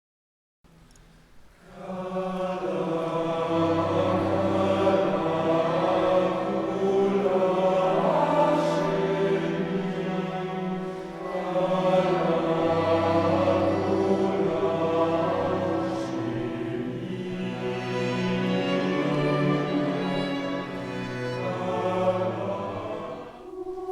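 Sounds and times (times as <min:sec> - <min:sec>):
choir singing sustained chords: 0:01.4 - 0:23.9.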